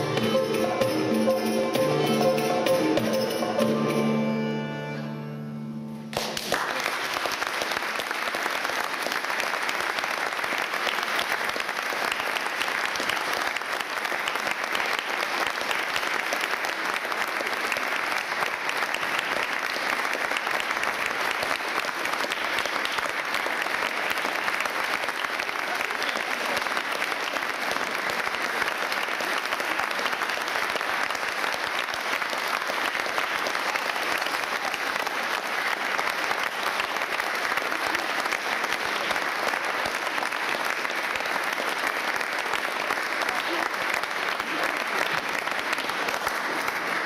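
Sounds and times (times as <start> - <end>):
audience applause: 6.1 - 47.0.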